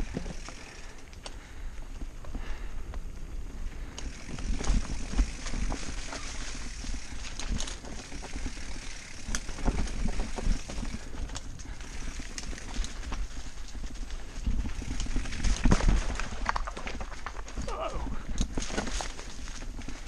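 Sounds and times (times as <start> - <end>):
bike rattling over rocks: 0.0 - 20.0
tyres rolling on dirt: 0.0 - 20.0.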